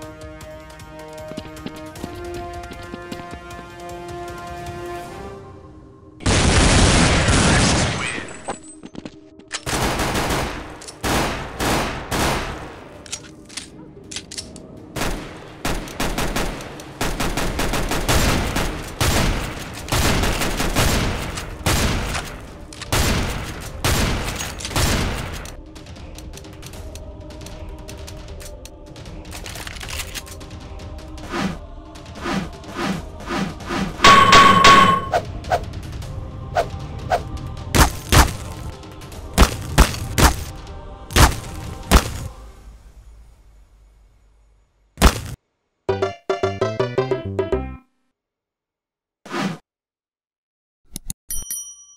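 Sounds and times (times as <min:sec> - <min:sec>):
background music: 0:00.0 - 0:45.3, 0:45.9 - 0:48.0.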